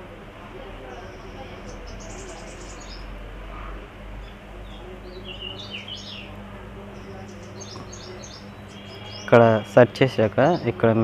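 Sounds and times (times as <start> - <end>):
birds chirping: 0.0 - 11.0
low electrical hum: 0.0 - 11.0.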